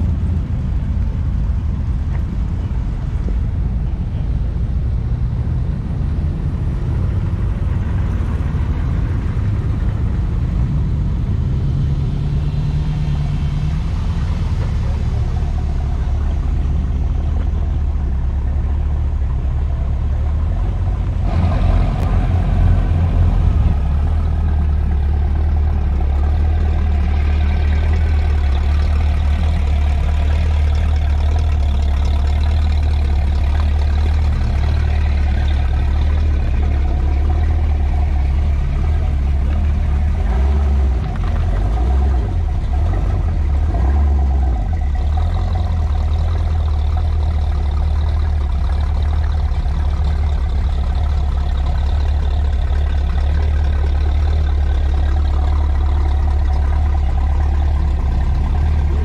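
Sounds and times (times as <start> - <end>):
car engines at low revs: 0.0 - 59.0
loud car engine passing: 5.2 - 59.0.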